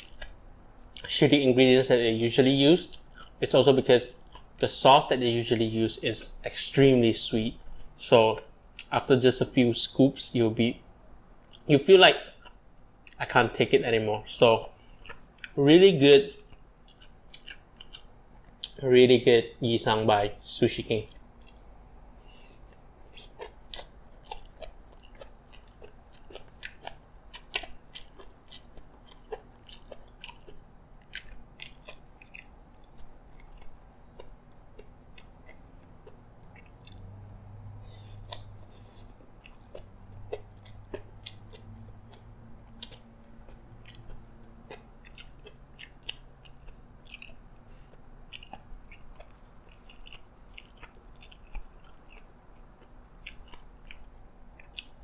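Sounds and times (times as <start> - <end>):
chewing and crunching food: 0.0 - 1.1, 2.7 - 9.5, 11.2 - 55.0.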